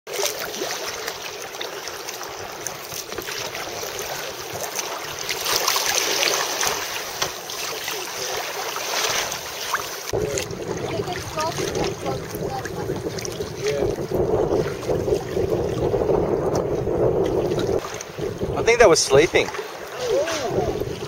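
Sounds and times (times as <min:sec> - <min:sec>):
water splashing against boat hull: 0:00.1 - 0:21.0.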